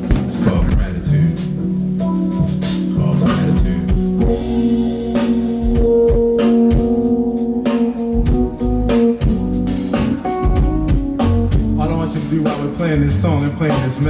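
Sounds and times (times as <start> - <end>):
drum kit keeping time: 0.0 - 14.0
keyboard chords: 0.0 - 14.0.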